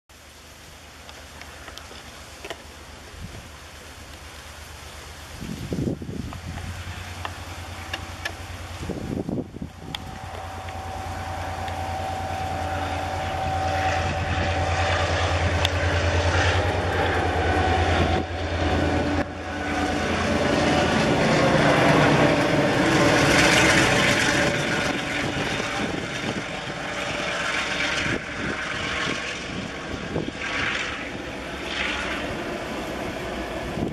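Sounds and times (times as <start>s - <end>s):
diesel locomotive engine drone: 0.1s - 33.9s.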